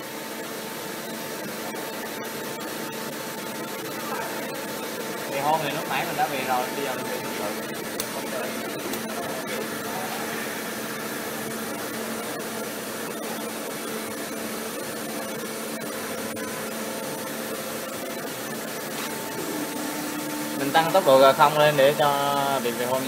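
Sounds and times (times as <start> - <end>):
milling machine whirring hum: 0.0 - 23.0.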